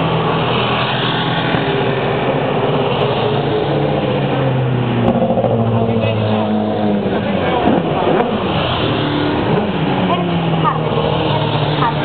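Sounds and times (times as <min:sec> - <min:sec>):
race car engines at low speed: 0:00.0 - 0:12.0.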